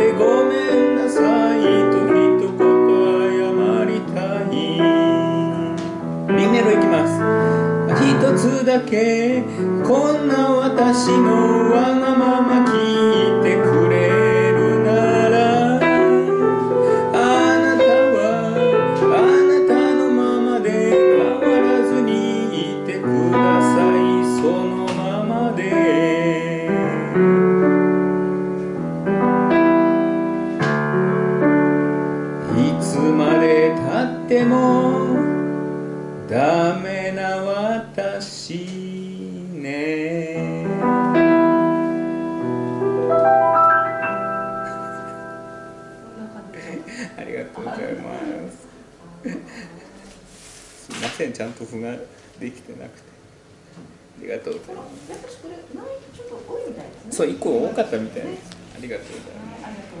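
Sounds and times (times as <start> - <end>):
piano: 0.0 - 60.0.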